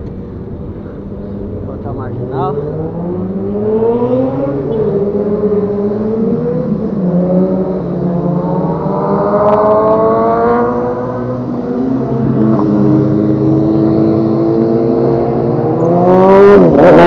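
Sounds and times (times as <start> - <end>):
engine accelerating: 0.0 - 17.0.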